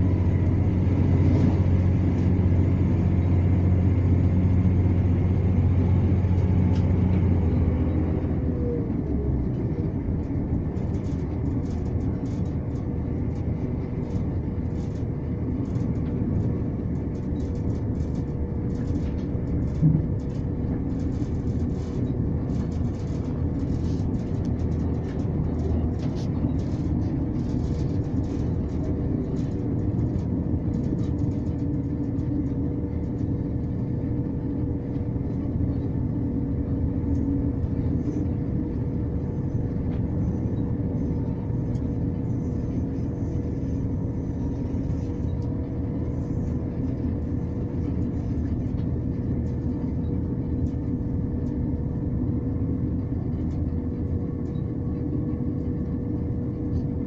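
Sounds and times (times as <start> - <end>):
diesel engine drone: 0.0 - 57.0
wheels rumbling on rail: 0.0 - 57.0.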